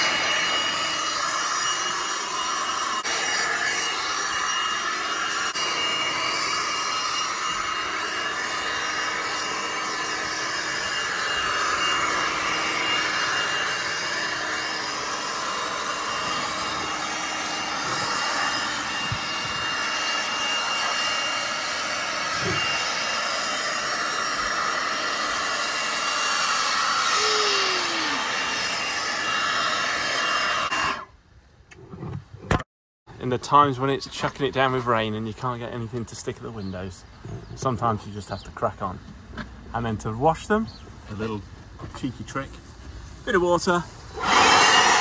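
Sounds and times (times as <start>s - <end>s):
leaf blower whining: 0.0s - 32.5s, 33.1s - 45.0s.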